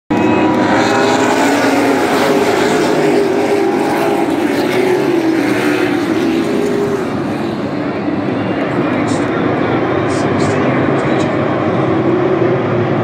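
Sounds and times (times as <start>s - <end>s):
race cars engines droning past: 0.1s - 13.0s.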